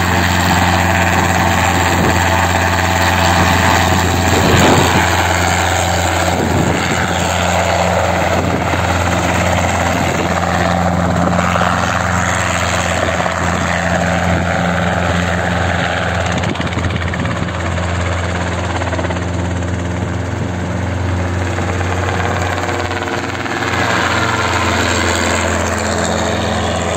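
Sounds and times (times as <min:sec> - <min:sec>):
helicopter flying: 0:00.0 - 0:26.9.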